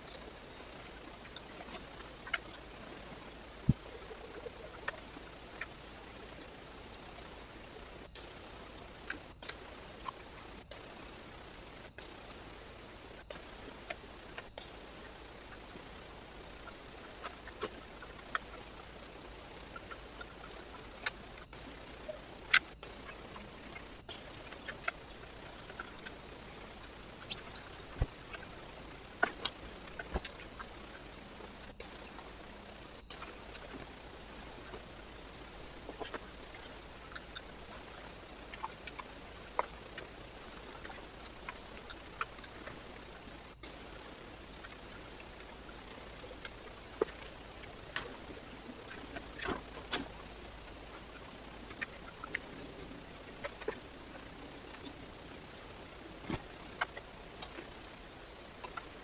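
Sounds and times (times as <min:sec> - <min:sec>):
microphone hiss: 0:00.0 - 0:59.0.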